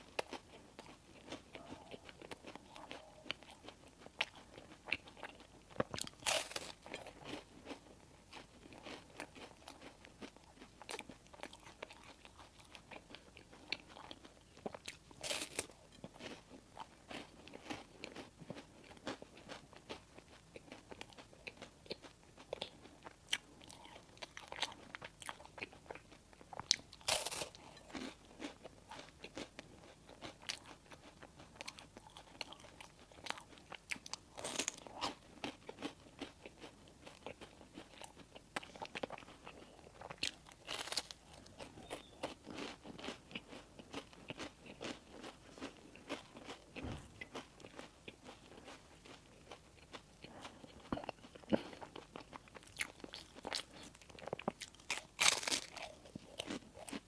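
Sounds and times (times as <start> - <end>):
chewing crunchy bread: 0.0 - 57.0
crunchy bites: 0.1 - 57.0.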